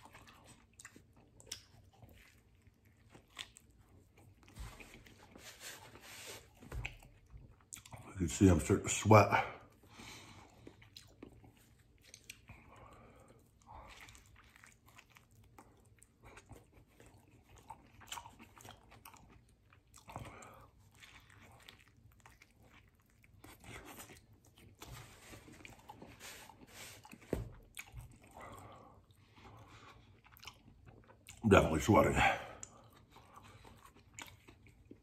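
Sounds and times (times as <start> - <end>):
man chewing food: 0.0 - 8.4, 9.3 - 35.0.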